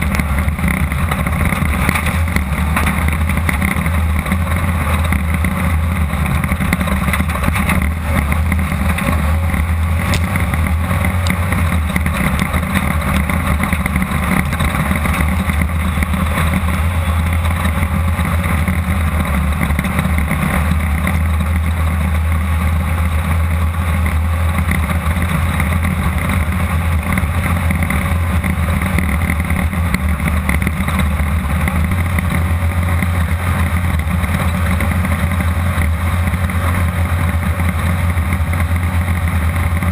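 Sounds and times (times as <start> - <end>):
buggy engine running hard: 0.0 - 39.9
rattle inside car: 0.0 - 39.9.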